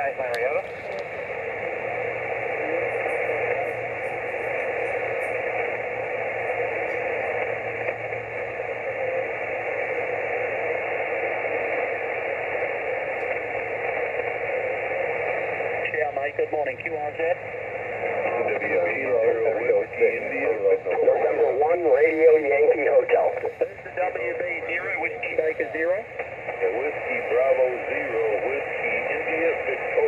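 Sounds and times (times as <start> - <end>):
radio band noise hiss: 0.0 - 30.0.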